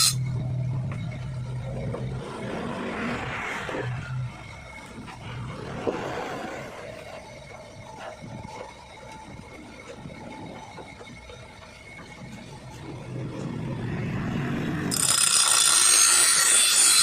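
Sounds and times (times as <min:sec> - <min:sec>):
metal grinding on metal: 0:00.0 - 0:17.0.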